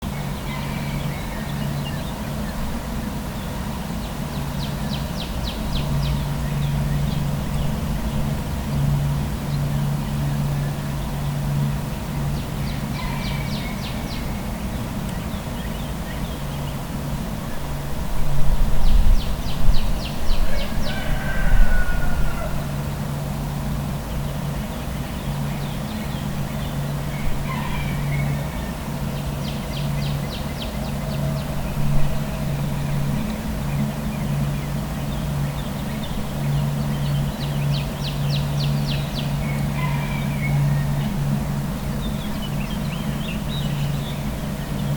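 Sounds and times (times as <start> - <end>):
birds singing: 0.0 - 23.2, 24.1 - 44.9
low hum of traffic: 0.0 - 44.9.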